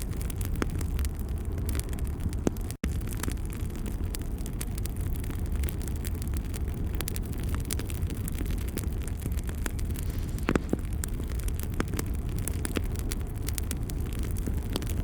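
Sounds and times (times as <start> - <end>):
fire roaring: 0.0 - 15.0
logs crackling and popping: 0.0 - 15.0.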